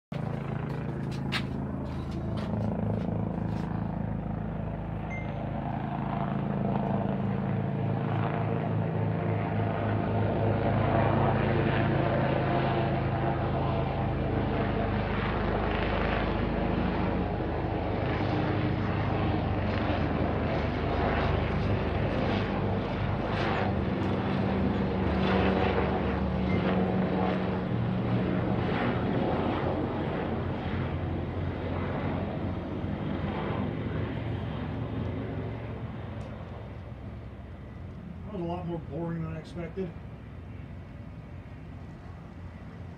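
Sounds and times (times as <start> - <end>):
helicopter rotor chopping: 0.1 - 42.9.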